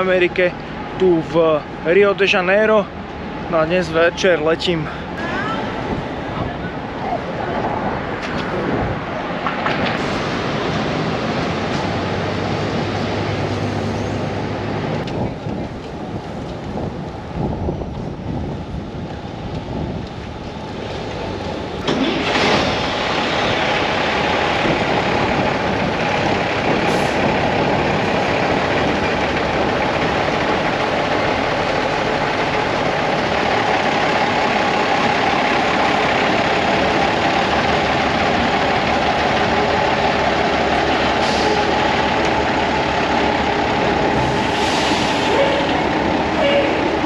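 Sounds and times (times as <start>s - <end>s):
road noise: 0.0s - 47.0s.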